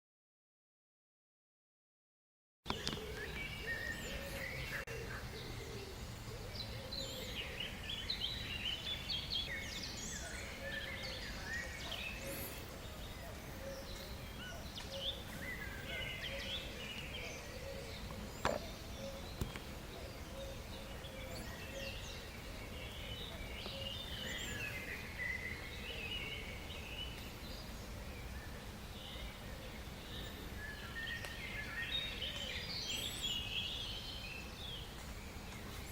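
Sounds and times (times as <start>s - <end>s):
birds chirping and calling: 2.7s - 35.9s.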